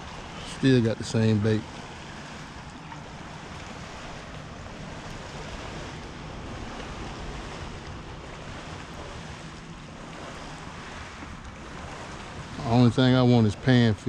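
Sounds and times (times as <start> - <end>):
wind noise on microphone: 1.7 - 13.2.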